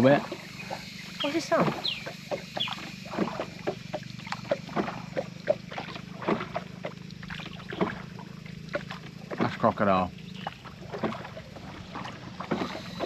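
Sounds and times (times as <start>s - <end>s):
water popping and gurgling: 0.0s - 13.0s.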